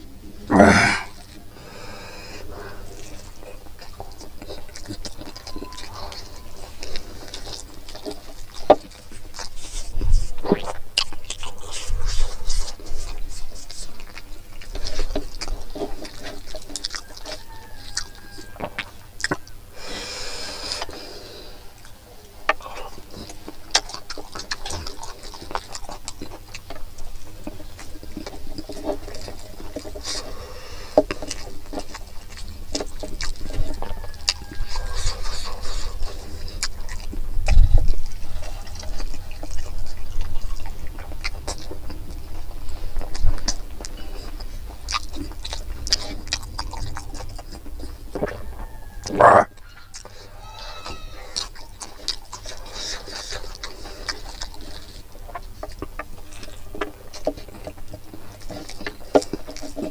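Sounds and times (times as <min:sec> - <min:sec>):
wet chewing and lip-smacking: 0:00.0 - 0:59.9.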